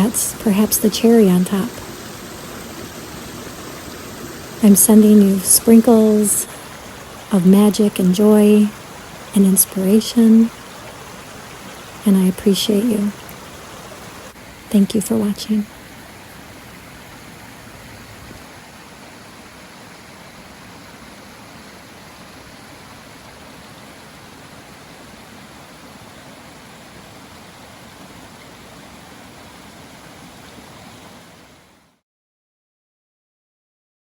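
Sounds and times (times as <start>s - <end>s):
bubbling stream rushing: 0.0s - 31.8s.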